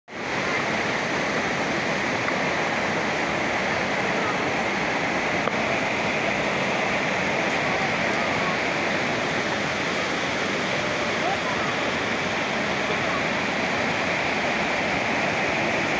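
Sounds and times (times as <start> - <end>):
waterfall rushing over rocks: 0.1 - 15.9.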